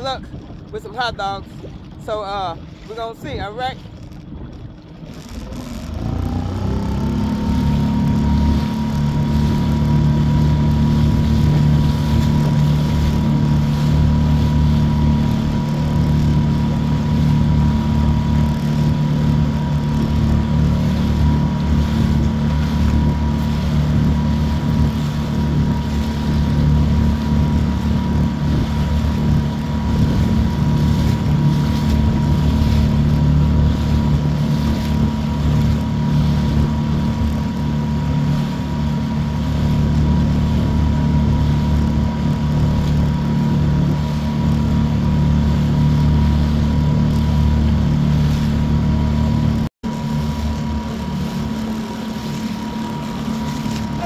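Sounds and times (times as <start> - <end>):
boat motor droning: 0.0 - 54.0
water rushing past hull: 0.0 - 54.0
wind buffeting microphone: 0.0 - 54.0.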